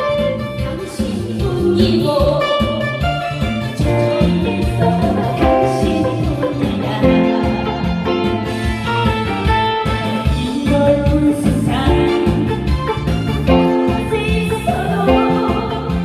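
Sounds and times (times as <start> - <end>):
guitar: 0.0 - 16.0
steady bass beat: 0.0 - 16.0.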